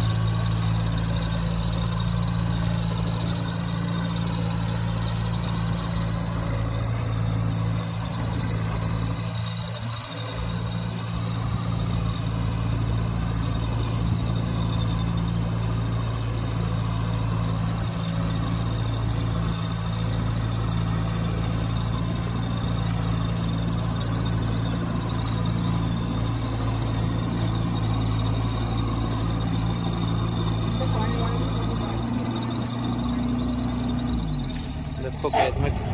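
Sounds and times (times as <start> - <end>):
combine harvester engine drone: 0.0 - 35.9.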